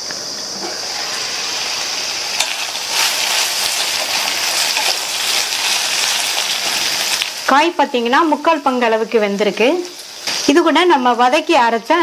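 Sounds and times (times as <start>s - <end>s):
beans sizzling in a pan: 0.0s - 12.0s.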